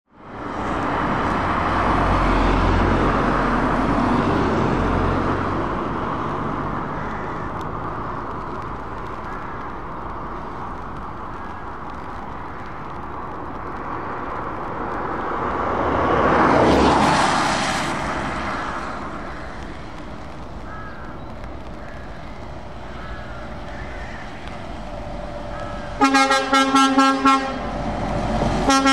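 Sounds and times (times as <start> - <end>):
traffic on a wet road: 0.1 - 28.9
vehicle passing close: 0.3 - 28.9.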